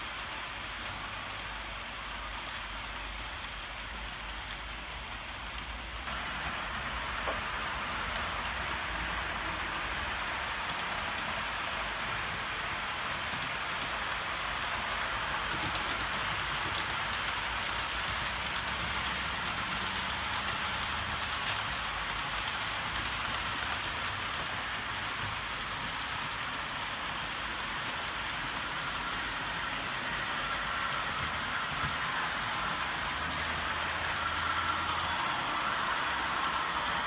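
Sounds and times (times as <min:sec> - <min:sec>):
model trains hissing on track: 0:00.0 - 0:37.0.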